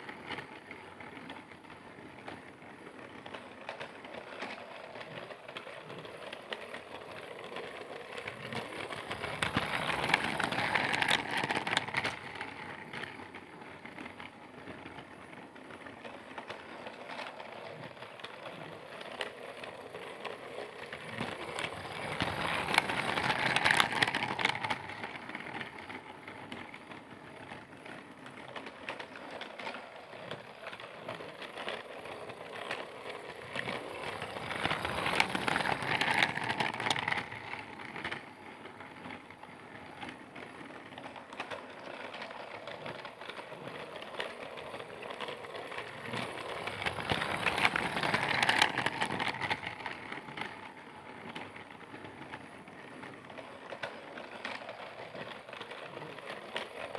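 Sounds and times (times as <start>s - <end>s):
toy train whirring rattle: 0.0s - 56.9s.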